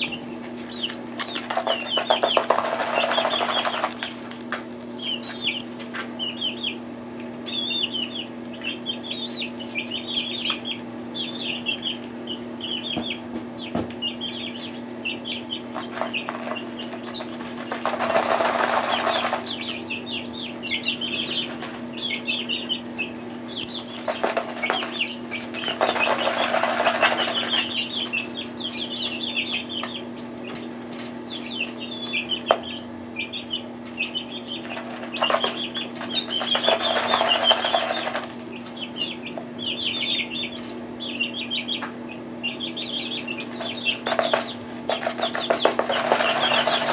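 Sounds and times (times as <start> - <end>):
chicks peeping: 0.0 - 46.9
steady low hum: 0.0 - 46.9.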